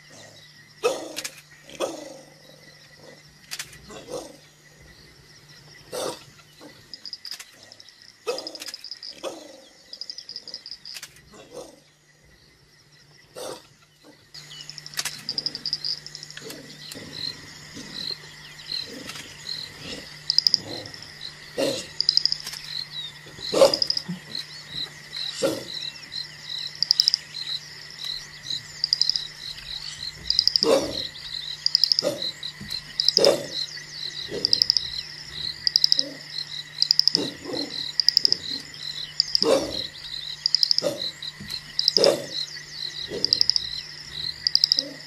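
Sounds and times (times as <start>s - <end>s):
frogs chirping: 0.0s - 45.0s
insects chirping: 0.0s - 45.0s.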